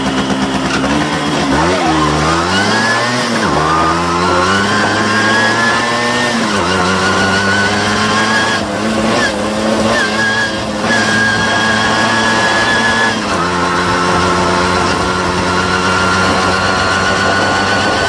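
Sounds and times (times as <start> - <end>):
two-stroke motorcycle engine: 0.0 - 18.0.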